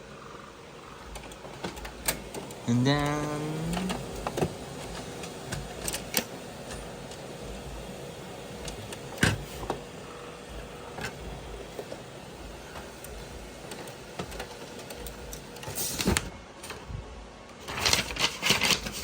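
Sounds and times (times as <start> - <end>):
laser printer running: 0.0 - 16.2.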